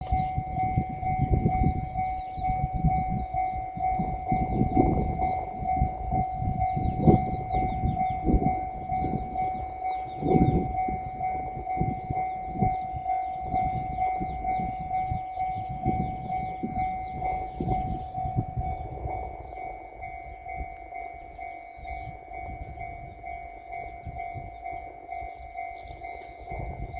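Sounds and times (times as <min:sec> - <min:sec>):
train rumbling with thumps: 0:00.0 - 0:26.9.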